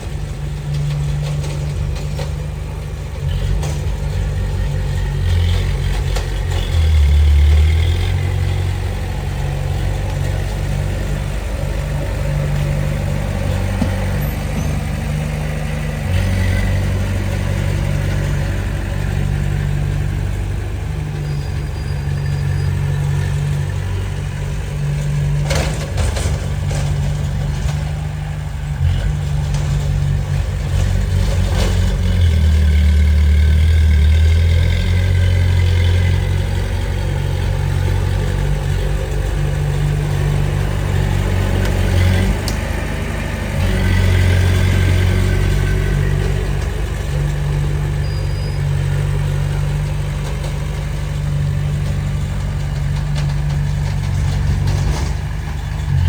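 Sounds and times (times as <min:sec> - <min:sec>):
diesel engine of earthmover running: 0:00.0 - 0:56.0.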